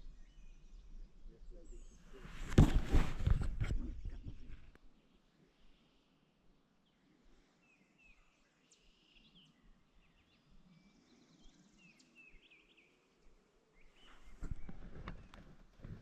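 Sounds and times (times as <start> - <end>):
songbird chirping: 0.0 - 2.6, 4.3 - 16.0.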